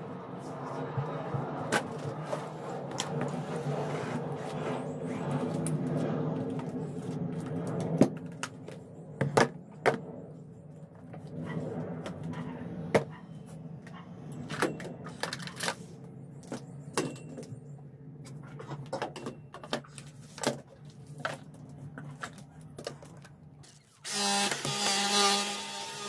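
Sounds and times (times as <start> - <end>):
steady low hum: 0.0 - 24.1.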